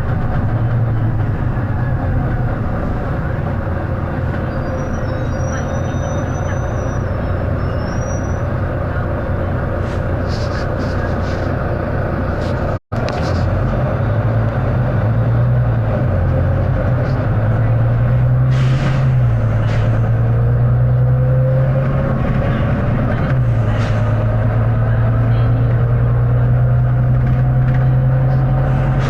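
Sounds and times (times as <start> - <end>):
bus diesel engine: 0.0 - 29.0.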